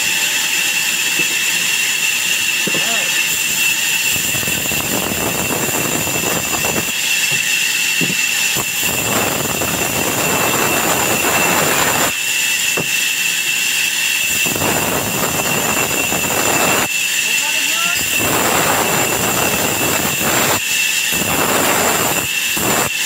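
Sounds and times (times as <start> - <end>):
band saw whining: 0.0 - 23.0
saw blade cutting log: 0.0 - 23.0.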